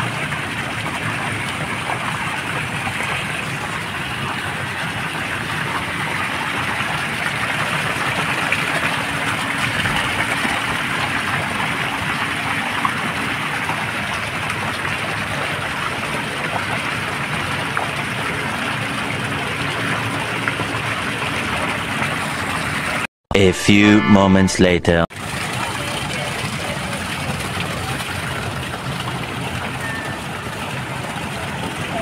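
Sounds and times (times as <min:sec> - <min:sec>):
fountain water splashing: 0:00.0 - 0:23.0, 0:25.2 - 0:32.0.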